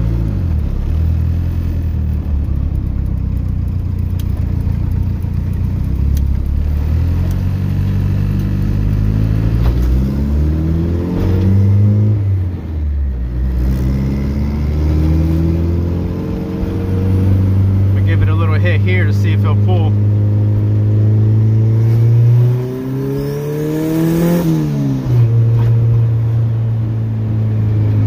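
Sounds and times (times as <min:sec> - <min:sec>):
turbocharged car engine accelerating: 0:00.0 - 0:28.0.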